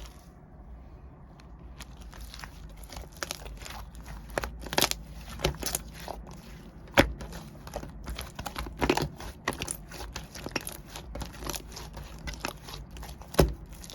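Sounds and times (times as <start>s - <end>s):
slime squished by hand: 1.6s - 13.9s.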